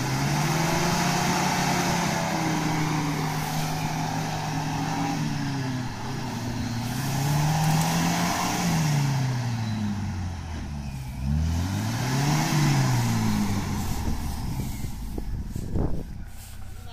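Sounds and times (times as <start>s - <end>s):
engine revving under load: 0.0s - 16.9s
wheels churning through mud: 0.0s - 16.9s.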